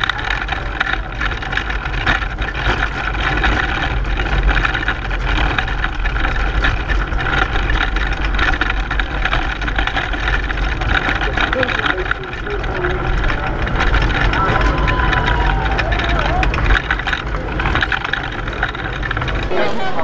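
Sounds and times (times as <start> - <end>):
pedal car rattling and rumbling: 0.0 - 20.0.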